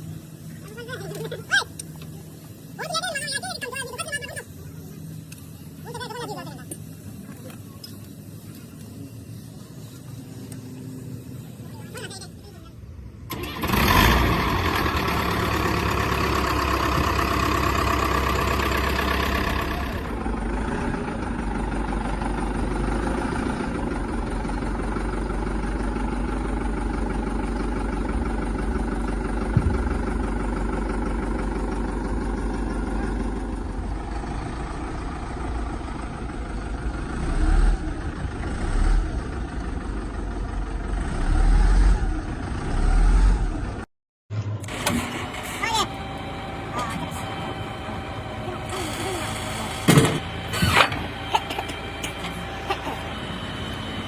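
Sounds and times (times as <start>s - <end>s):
diesel engine idling and revving: 0.0s - 54.0s.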